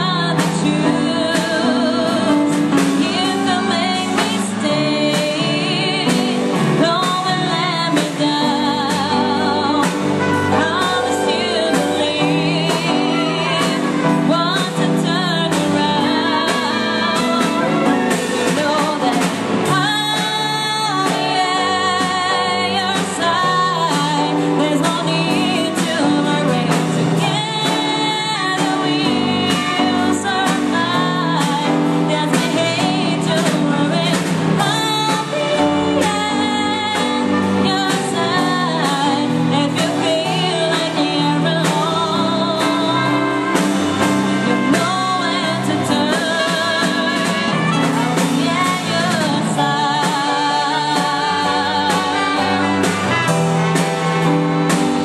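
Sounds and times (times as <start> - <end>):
woman singing slow song: 0.0 - 53.2
keyboard: 0.0 - 55.0
trumpet: 0.0 - 55.0.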